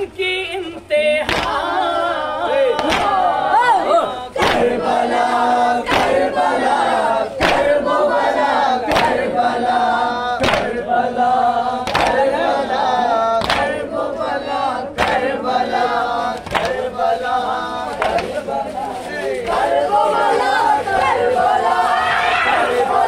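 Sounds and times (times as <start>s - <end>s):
crowd chanting in unison: 1.2s - 23.0s.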